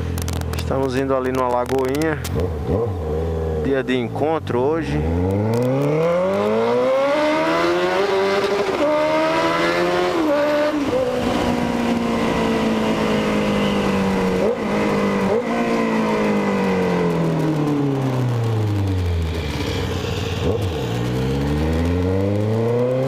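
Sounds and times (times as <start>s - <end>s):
motorcycle accelerating: 0.0s - 23.0s.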